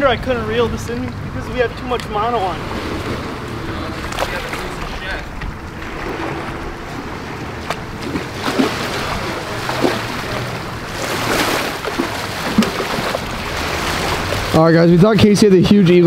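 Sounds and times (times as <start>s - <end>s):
moving water: 0.0s - 16.0s
wind: 0.0s - 16.0s.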